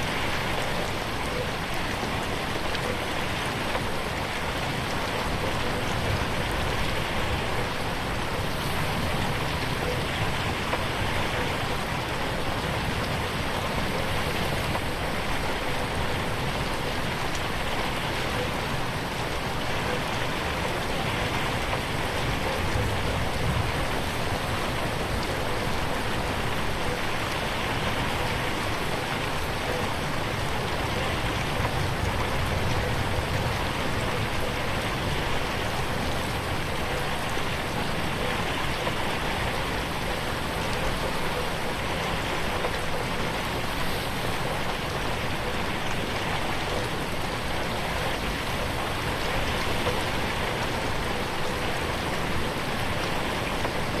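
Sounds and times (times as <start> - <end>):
rain on a window: 0.0 - 54.0.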